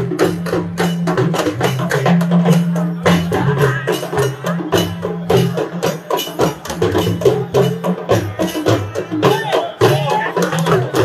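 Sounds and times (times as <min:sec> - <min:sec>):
talking drums fast rhythm: 0:00.0 - 0:11.0.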